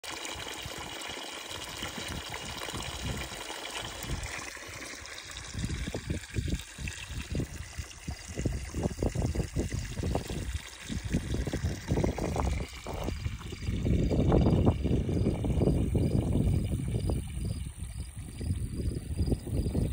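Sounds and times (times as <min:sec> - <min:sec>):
water pouring and splashing: 0:00.0 - 0:19.9
wind buffeting microphone: 0:00.6 - 0:19.9.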